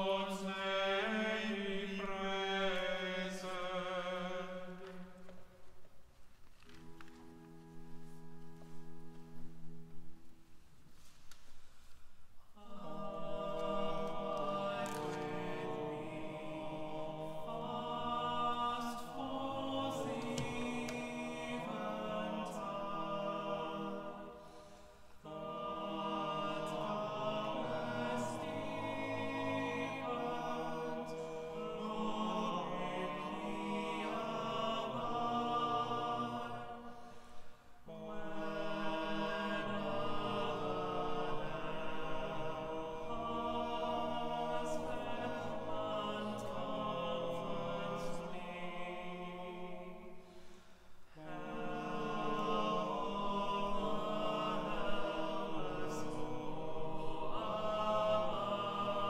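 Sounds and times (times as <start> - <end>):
choir singing in harmony: 0.0 - 5.5, 12.4 - 59.0.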